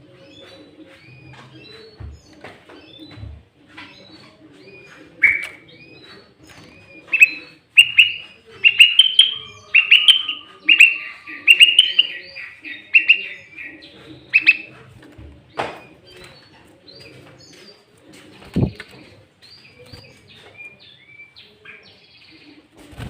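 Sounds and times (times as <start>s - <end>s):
bird chirping song: 0.0s - 22.7s.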